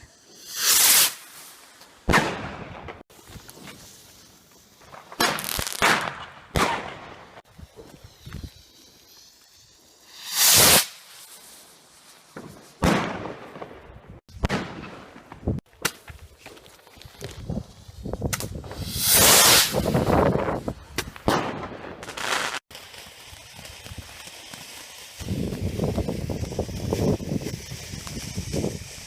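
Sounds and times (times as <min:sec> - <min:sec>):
fireworks and firecrackers banging: 0:00.0 - 0:29.0.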